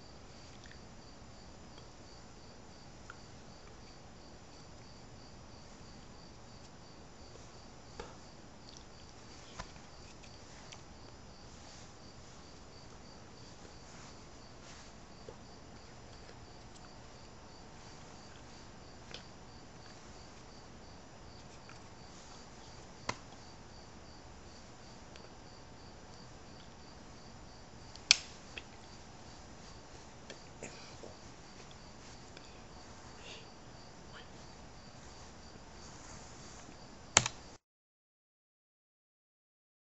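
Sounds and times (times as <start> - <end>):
low hiss: 0.0 - 37.5
cricket chirping: 0.0 - 37.6.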